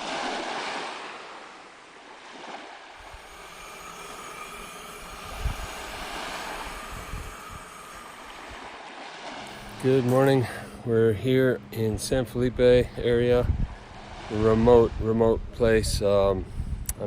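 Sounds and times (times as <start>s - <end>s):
ocean waves washing on beach: 0.0s - 15.4s.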